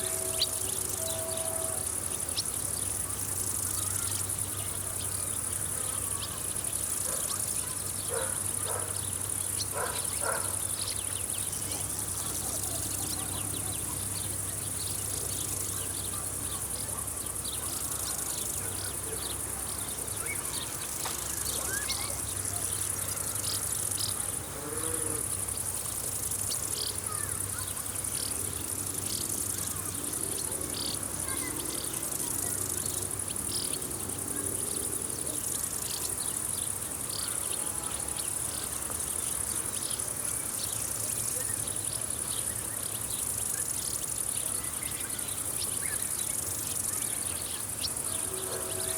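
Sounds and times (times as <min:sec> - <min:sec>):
birds chirping: 0:00.0 - 0:48.9
insects chorus: 0:00.0 - 0:48.9.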